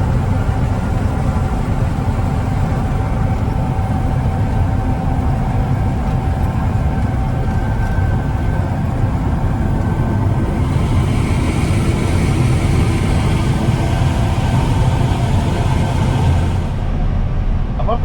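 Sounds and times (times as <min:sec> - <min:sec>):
combine engine rumble: 0:00.0 - 0:18.0
constant machine whine: 0:00.0 - 0:18.0.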